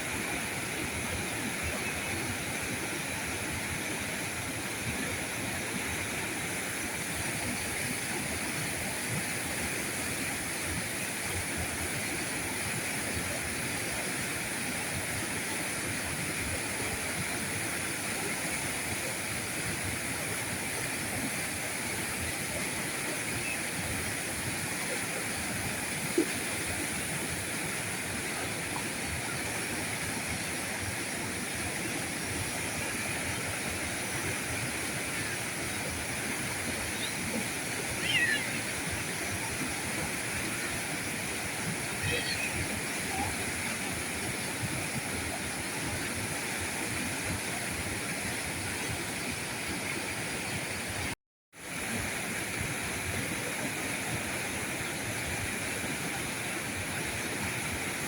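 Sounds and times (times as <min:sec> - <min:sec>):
river rushing over streambed: 0:00.0 - 0:58.0.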